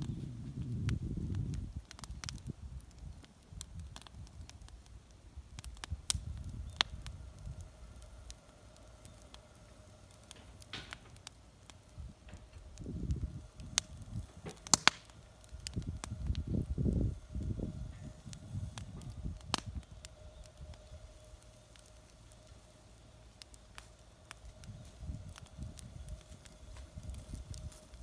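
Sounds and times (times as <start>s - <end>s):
fire popping: 0.0s - 28.0s
wood fire burning: 0.0s - 28.0s.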